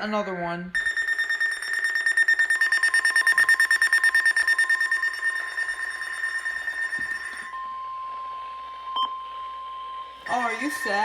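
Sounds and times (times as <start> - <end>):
rapid high-pitched alarm beeping: 0.8 - 11.0
steady radio warning tone: 0.8 - 11.0.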